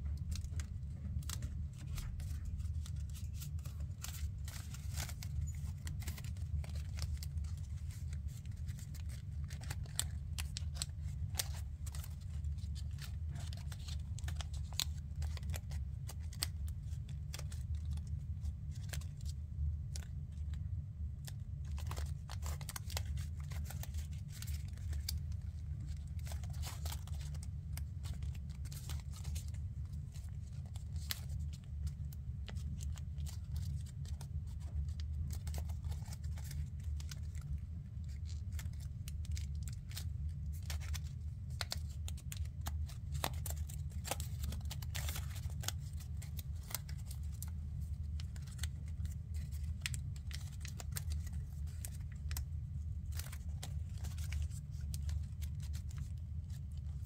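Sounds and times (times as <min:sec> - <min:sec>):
paper being folded and creased: 0:00.0 - 0:57.0.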